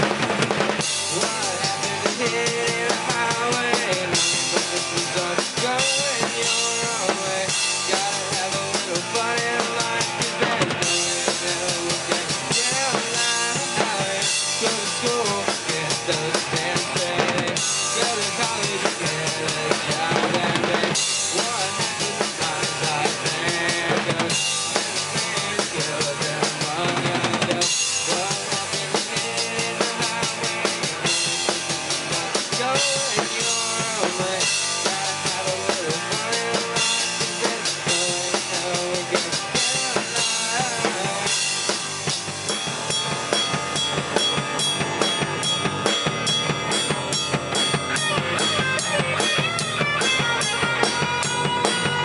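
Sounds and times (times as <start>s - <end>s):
drum kit: 0.0s - 52.0s
electric guitars: 0.0s - 52.0s
rock band playing live: 0.0s - 52.0s.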